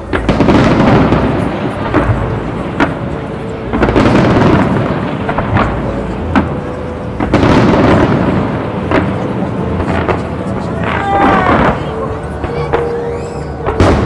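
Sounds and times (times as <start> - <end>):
fireworks barrage: 0.0 - 14.0
fireworks sharp bangs: 0.0 - 14.0.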